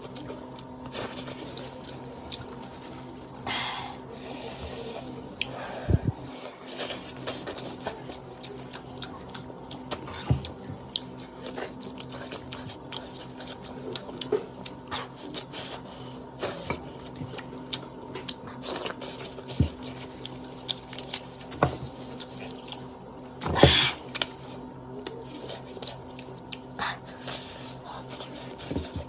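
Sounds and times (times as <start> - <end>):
person chewing: 0.0 - 3.4, 4.0 - 29.0
faint steady hum: 0.0 - 29.0.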